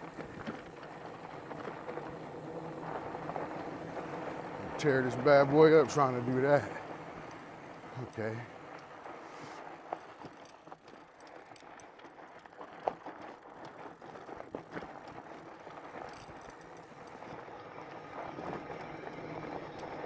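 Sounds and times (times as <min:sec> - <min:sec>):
bike rattling and knocking: 0:00.0 - 0:20.0
tire and trail noise: 0:00.0 - 0:20.0.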